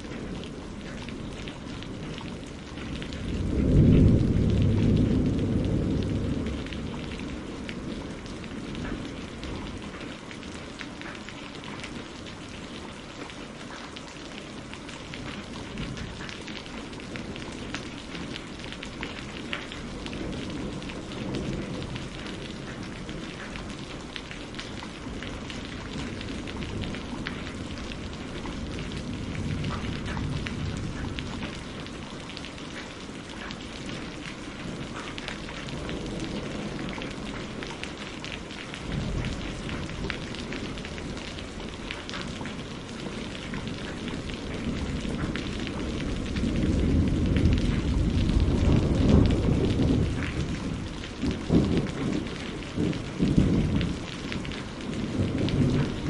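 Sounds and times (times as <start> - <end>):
thunder rumbling: 0.0 - 10.8, 14.6 - 56.0
rain tapping on a roof: 0.0 - 56.0.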